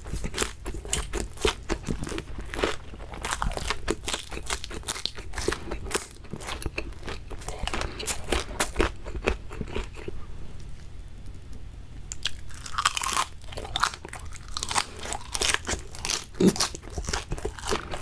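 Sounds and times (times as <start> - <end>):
crunchy chewing: 0.0 - 10.9, 12.1 - 18.0.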